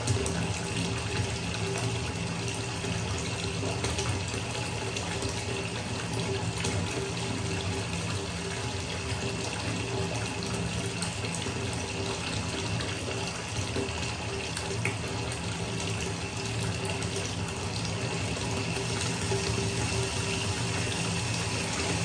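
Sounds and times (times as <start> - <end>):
tap pouring into bathtub: 0.0 - 22.0.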